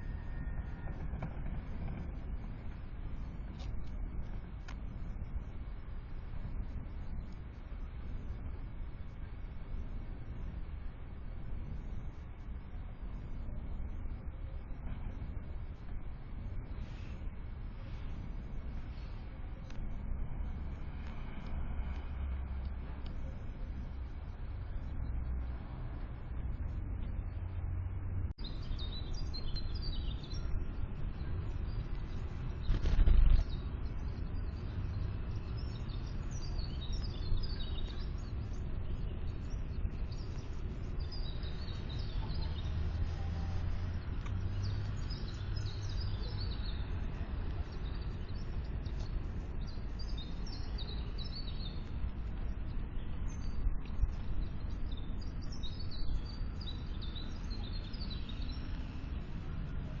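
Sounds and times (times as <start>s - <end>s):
low background rumble: 0.0s - 60.0s
songbirds chirping: 0.0s - 60.0s.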